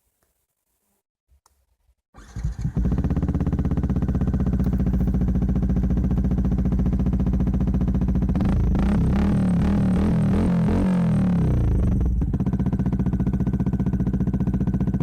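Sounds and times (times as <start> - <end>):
motorcycle engine starting and idling: 2.2 - 15.0.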